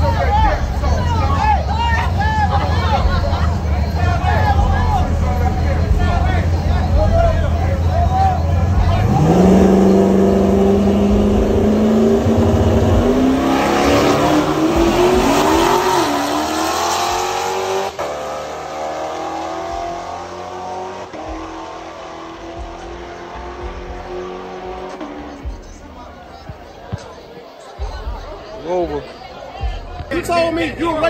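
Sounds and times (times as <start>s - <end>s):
car engine revving: 0.0s - 26.8s.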